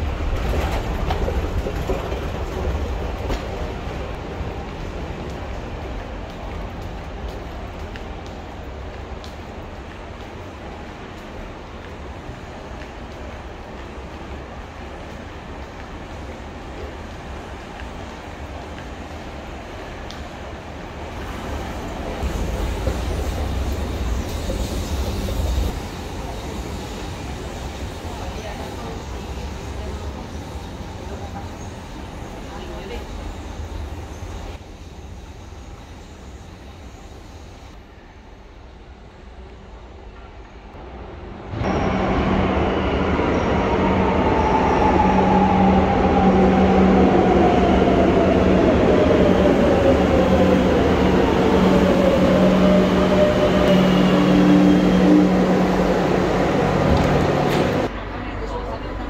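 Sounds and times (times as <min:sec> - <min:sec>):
metro train rumbling: 0:00.0 - 0:59.0.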